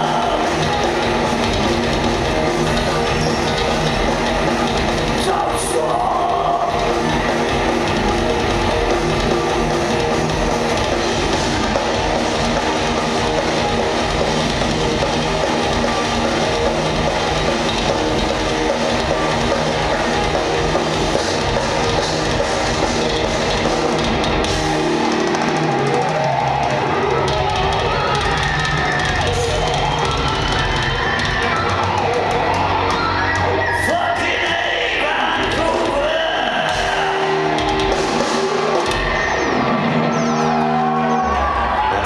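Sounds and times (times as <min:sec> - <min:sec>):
distorted electric guitars: 0:00.0 - 0:42.0
drum kit: 0:00.0 - 0:42.0
heavy rock band playing: 0:00.0 - 0:42.0
keyboards: 0:00.0 - 0:42.0.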